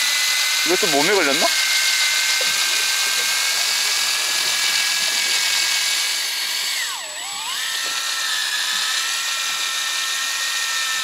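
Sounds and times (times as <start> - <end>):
electric fishing reel motor whining: 0.0 - 11.0.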